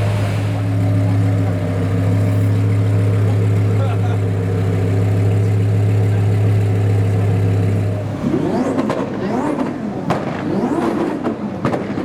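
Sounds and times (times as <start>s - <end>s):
car engine idling and revving: 0.0s - 12.0s
exhaust cracks: 0.0s - 12.0s.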